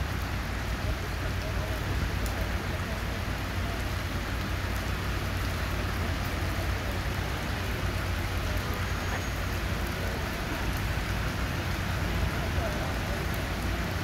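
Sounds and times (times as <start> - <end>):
heavy rain on a street: 0.0 - 14.0.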